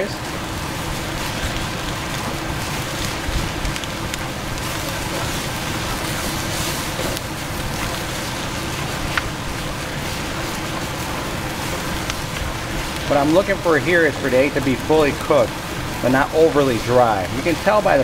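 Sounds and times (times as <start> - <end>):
rice sizzling in wok: 0.0 - 18.0.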